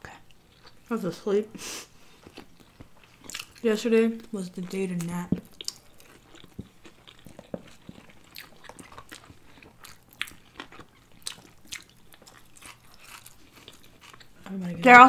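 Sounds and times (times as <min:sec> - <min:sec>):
chewing and biting food: 0:02.2 - 0:14.5.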